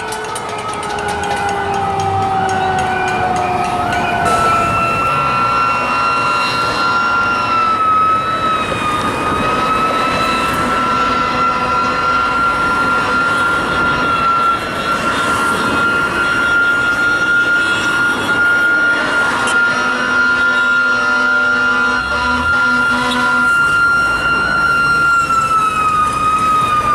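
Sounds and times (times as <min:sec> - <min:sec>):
fire truck siren whine: 0:00.0 - 0:26.9
heavy engine and street noise: 0:00.0 - 0:26.9.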